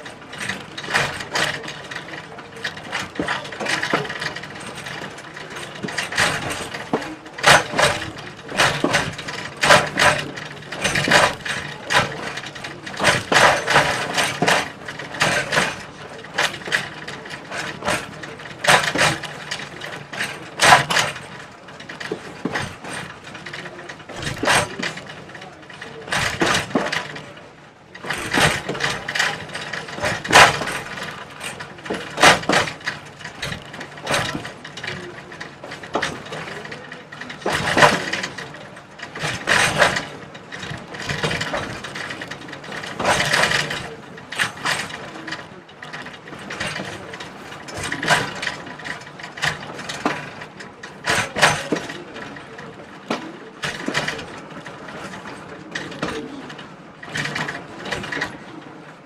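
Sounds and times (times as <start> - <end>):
loud knocks from train wheels: 0.0 - 27.4, 28.0 - 56.4
train wheels clattering on track: 0.0 - 59.0.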